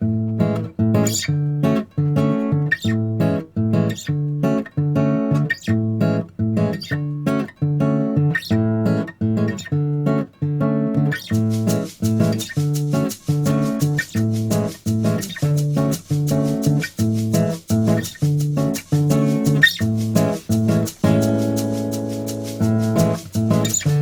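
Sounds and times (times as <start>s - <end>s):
bossa nova acoustic guitar: 0.0s - 24.0s.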